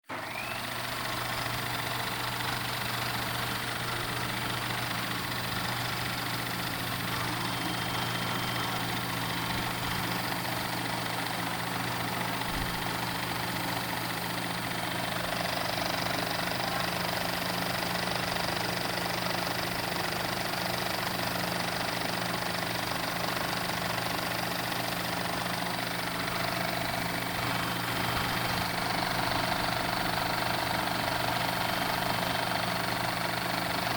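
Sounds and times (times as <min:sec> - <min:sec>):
film projector whirring: 0:00.0 - 0:33.9.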